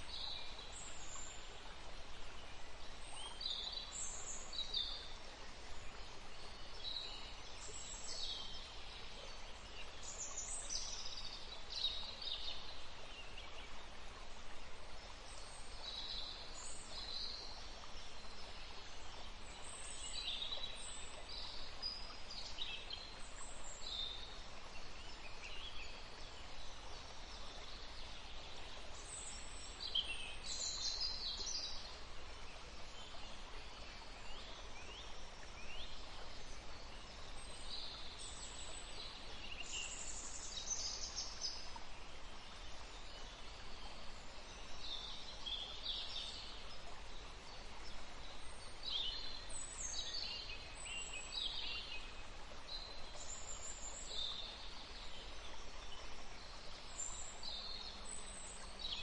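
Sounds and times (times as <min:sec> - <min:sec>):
faint forest ambience hiss: 0:00.0 - 0:59.0
songbirds chirping: 0:00.0 - 0:59.0.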